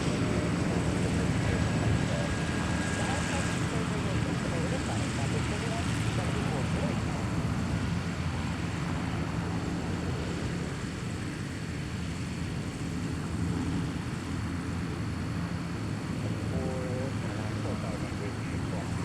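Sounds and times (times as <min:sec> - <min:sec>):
high engine whine: 0:00.0 - 0:19.0
jet engines rumbling: 0:00.0 - 0:19.0.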